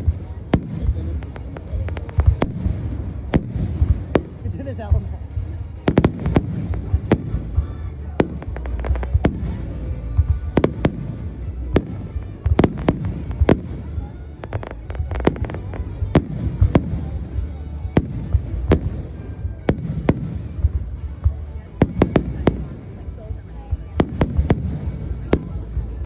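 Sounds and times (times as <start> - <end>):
fireworks bursting: 0.0 - 26.0
low rumble: 0.0 - 26.0.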